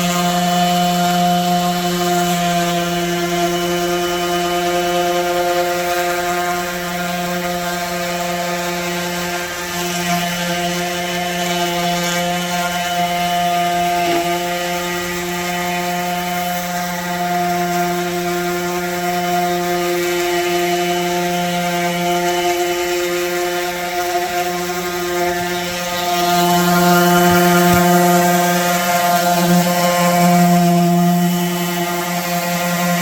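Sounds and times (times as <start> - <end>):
electric sander sanding wood: 0.0 - 33.0.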